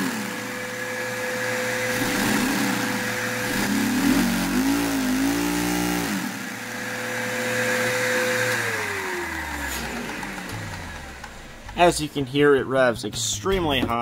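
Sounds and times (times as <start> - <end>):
model engine revving high: 0.0 - 11.8
vacuum cleaner whine and rush: 0.0 - 11.8.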